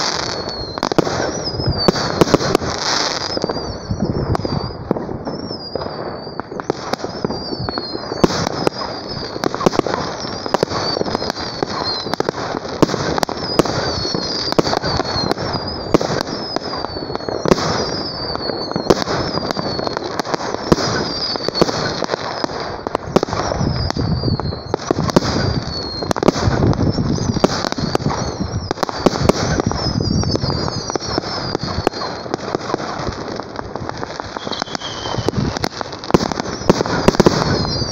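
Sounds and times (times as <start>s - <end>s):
firework whistle falling: 0.0s - 37.9s
fireworks crackling: 0.0s - 37.9s
fireworks launching and bursting: 0.0s - 37.9s.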